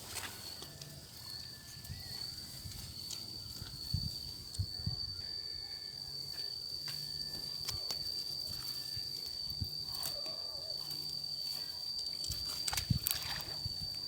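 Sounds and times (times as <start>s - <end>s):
cricket trilling: 0.0s - 14.0s.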